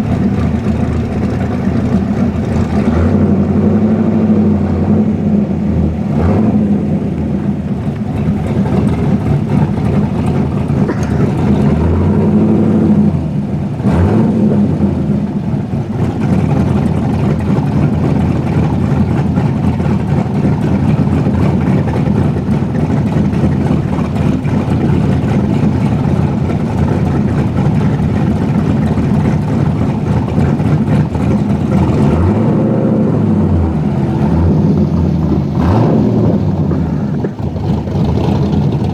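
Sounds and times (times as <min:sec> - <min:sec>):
sports car engine revving: 0:00.0 - 0:38.9.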